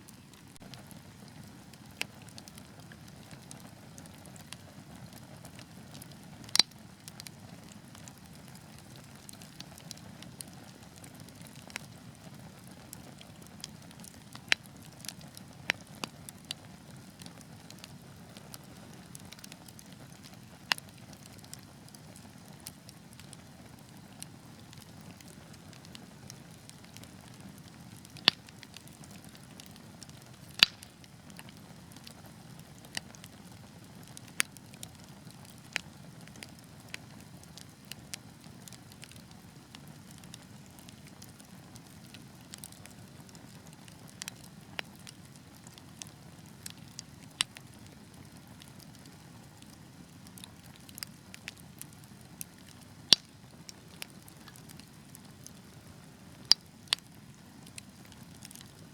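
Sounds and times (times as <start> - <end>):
fire crackles and pops: 0.0 - 58.9
wood fire rustling: 0.0 - 58.9.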